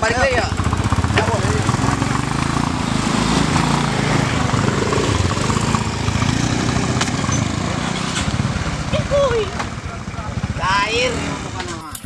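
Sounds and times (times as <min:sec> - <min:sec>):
motor scooter engines: 0:00.0 - 0:12.0.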